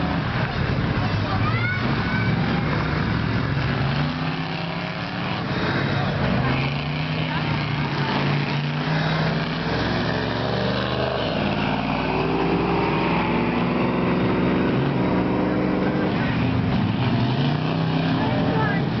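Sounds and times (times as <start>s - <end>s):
suv engine running hard: 0.0s - 19.0s.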